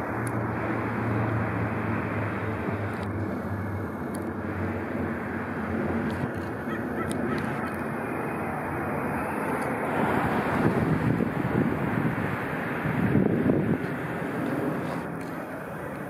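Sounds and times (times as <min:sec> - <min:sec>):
low engine hum: 0:00.0 - 0:16.0
road traffic: 0:00.0 - 0:16.0.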